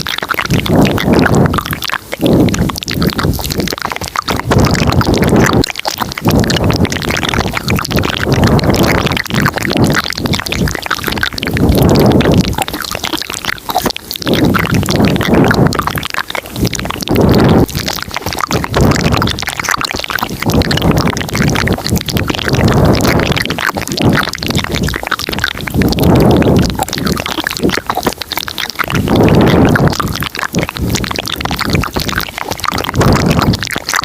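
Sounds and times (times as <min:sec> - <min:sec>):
wet mouth clicks and smacks: 0:00.0 - 0:34.0.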